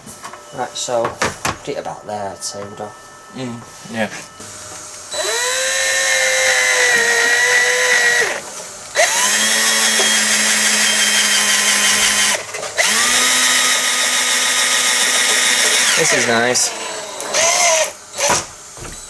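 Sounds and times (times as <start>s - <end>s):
electric drill whining: 2.5s - 19.0s.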